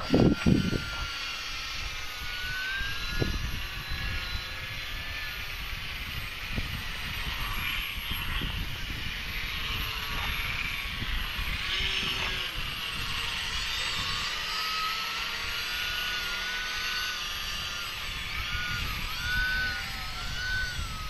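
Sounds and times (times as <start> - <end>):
wind rumble on microphone: 0.0 - 14.5, 15.1 - 21.0
model airplane motor buzzing: 0.0 - 21.0.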